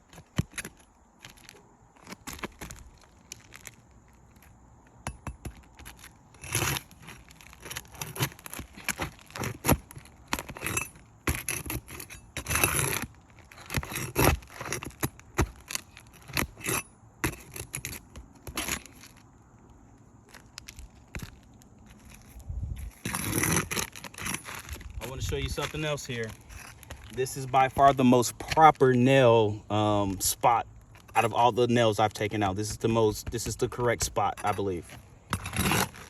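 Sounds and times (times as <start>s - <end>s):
tool scraping under shingles: 0.0s - 36.0s.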